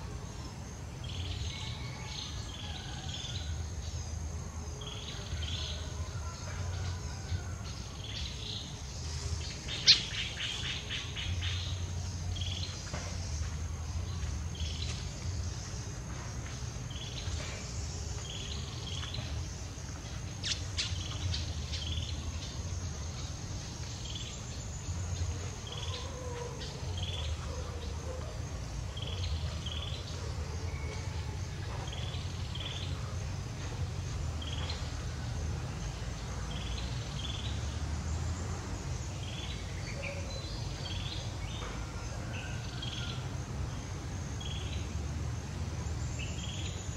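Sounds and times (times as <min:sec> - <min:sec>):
insect drone: 0:00.0 - 0:46.9.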